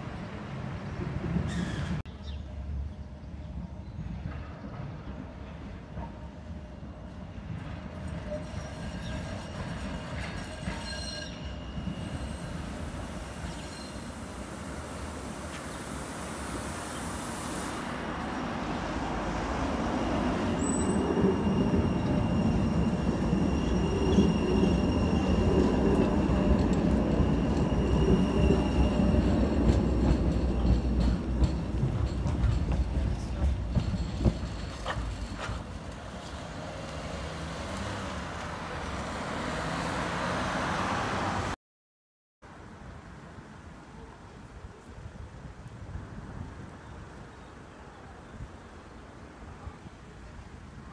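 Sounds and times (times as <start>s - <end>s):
tram wheels and motors rumbling: 0.0s - 41.5s.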